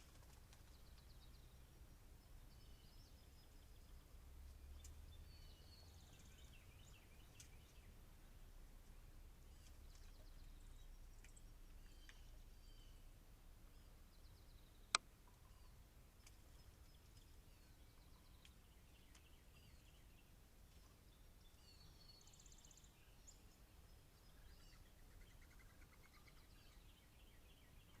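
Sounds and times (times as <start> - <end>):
songbirds chirping and trilling: 0.0 - 28.0.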